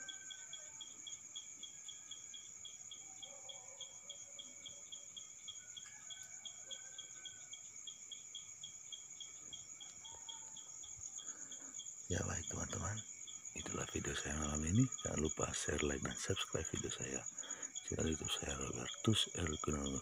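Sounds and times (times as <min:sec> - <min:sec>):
insects trilling: 0:00.0 - 0:20.0
pulsing insect chirp: 0:00.0 - 0:20.0.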